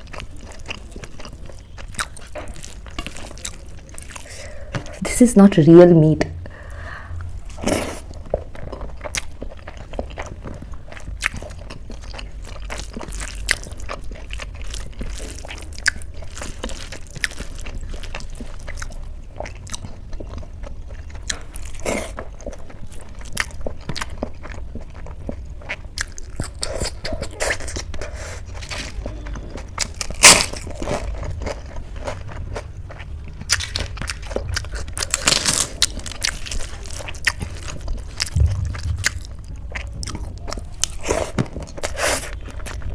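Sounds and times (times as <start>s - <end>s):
person chewing food: 0.0s - 5.0s, 6.6s - 42.9s.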